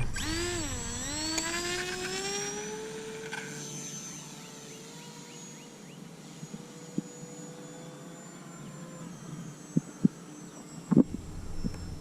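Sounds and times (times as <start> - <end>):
electric model plane motor whining: 0.0 - 12.0.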